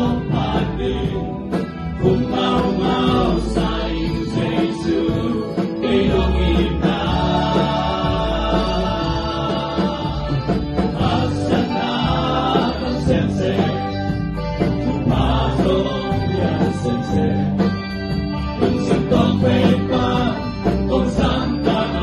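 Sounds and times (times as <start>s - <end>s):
men singing together amplified: 0.0s - 17.7s, 18.6s - 22.0s
band with electric guitar: 0.0s - 22.0s.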